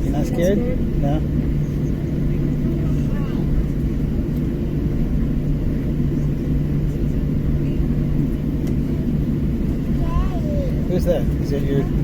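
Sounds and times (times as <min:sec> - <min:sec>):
airliner cabin engine drone: 0:00.0 - 0:12.0
constant low hum: 0:00.0 - 0:12.0.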